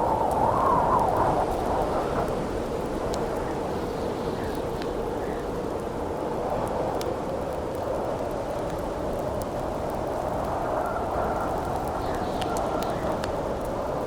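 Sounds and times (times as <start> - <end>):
campfire crackling and popping: 0.0 - 14.0
howling wind: 0.0 - 14.0.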